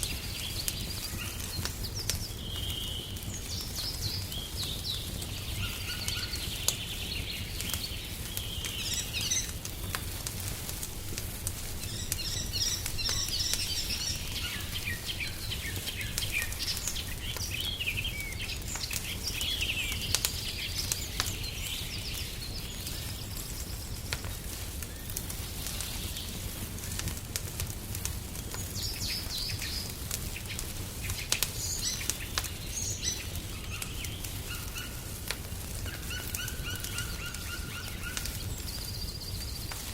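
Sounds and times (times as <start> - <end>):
songbirds chirping and trilling: 0.0 - 39.9
wood fire crackling and popping: 0.0 - 39.9.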